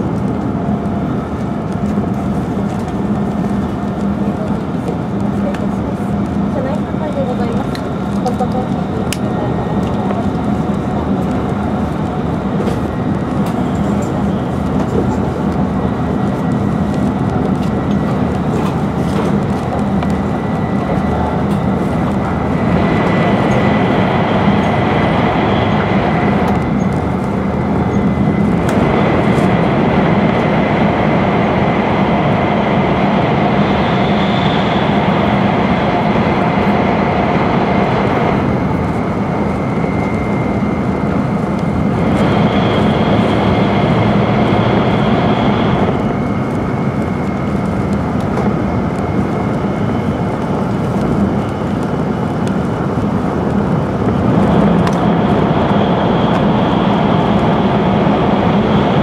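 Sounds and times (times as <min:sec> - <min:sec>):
train cabin rush of air: 0:00.0 - 0:59.0.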